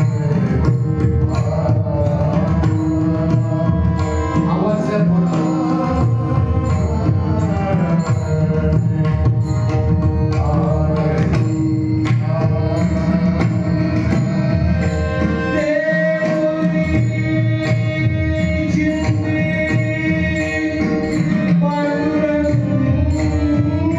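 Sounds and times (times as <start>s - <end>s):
hand drum accompaniment: 0.0s - 23.9s
man singing devotional song: 0.0s - 23.9s.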